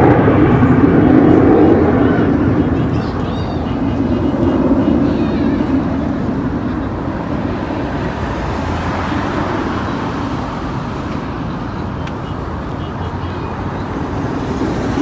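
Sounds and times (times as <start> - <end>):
engine roaring: 0.0 - 15.0.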